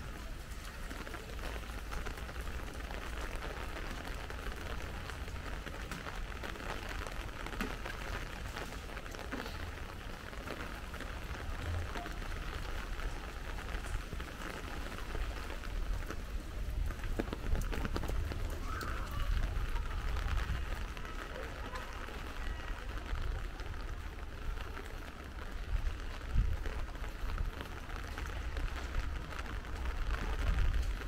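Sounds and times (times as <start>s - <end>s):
light rain falling: 0.0s - 31.0s.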